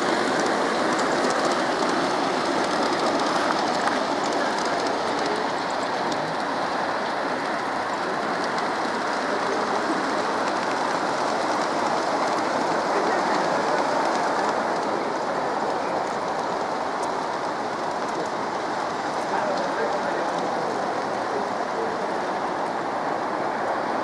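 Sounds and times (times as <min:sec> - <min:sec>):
model trains rumbling on track: 0:00.0 - 0:24.0.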